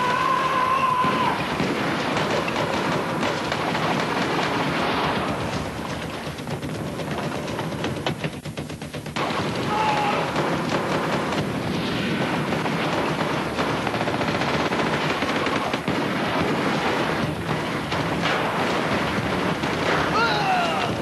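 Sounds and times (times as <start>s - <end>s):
rapid gunfire: 0.0s - 21.0s.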